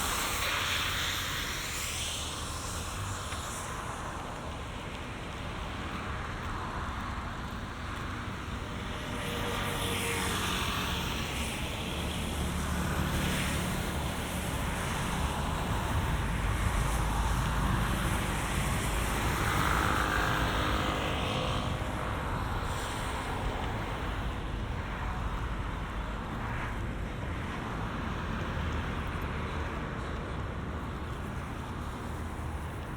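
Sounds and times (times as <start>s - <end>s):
cars passing: 0.0s - 32.9s.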